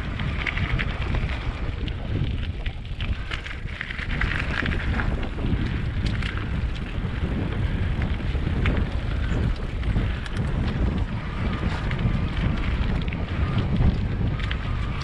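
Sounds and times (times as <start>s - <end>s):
faint ticks and rattles: 0.0s - 15.0s
wind buffeting microphone: 0.0s - 15.0s.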